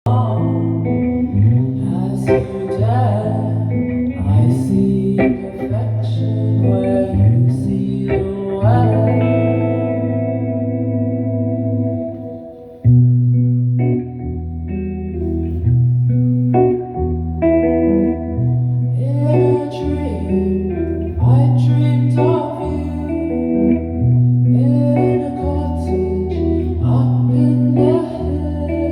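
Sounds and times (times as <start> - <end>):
person singing: 0.0 - 13.3, 18.0 - 28.9
guitar: 0.0 - 28.9
held bass notes: 0.0 - 28.9.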